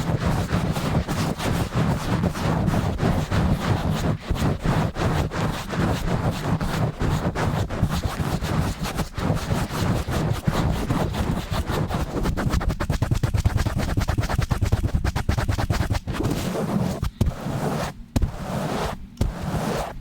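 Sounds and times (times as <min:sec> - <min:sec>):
scratching on microphone: 0:00.0 - 0:20.0.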